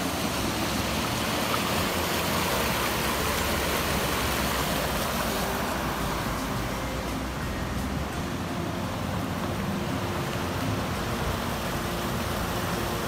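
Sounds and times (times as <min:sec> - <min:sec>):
river in flood rushing: 0:00.0 - 0:13.0.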